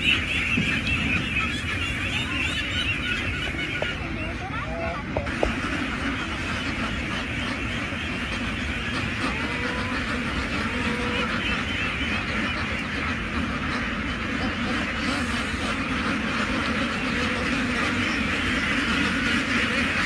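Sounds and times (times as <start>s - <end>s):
ducks quacking: 0.0s - 20.0s
low steady rumble: 0.0s - 20.0s.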